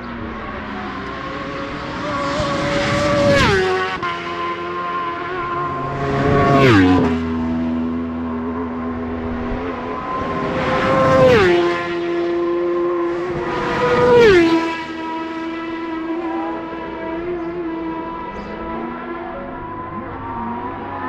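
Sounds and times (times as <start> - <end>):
racing motorcycles passing: 0.0 - 21.0.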